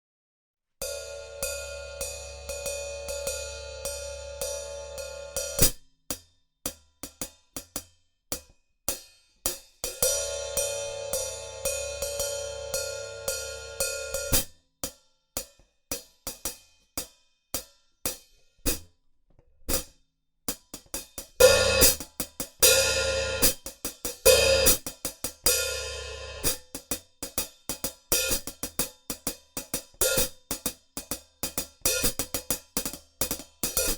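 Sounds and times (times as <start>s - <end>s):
hi-hat played with drumsticks: 0.8s - 18.9s, 19.7s - 33.9s.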